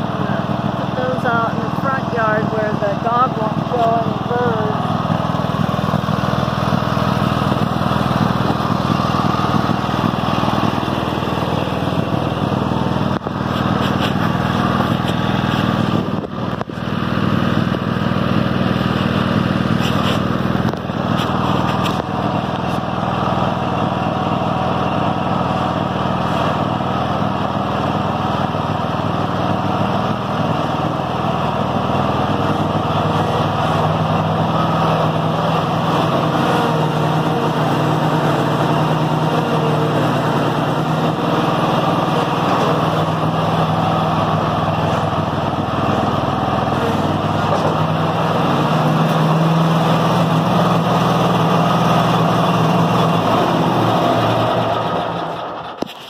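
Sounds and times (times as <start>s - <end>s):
riding lawn mower engine: 0.0s - 56.0s.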